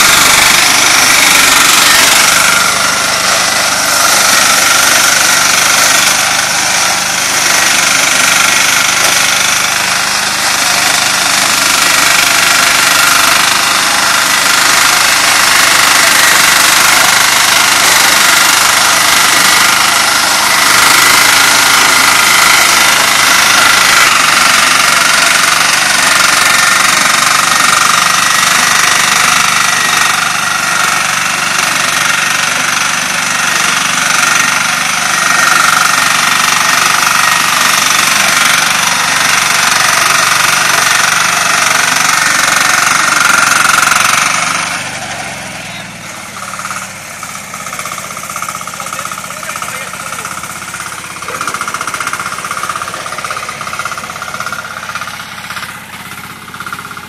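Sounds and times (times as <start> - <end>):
harvester engine running: 0.0 - 57.0
rhythmic mechanical clatter: 0.0 - 57.0.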